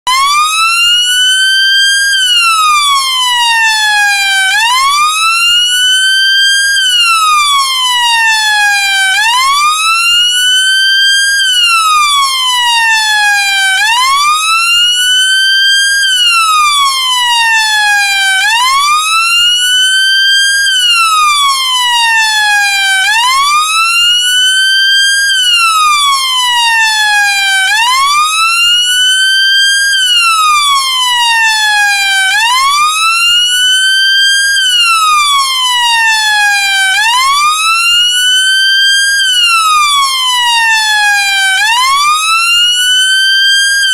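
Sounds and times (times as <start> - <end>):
police siren wailing: 0.1 - 43.9.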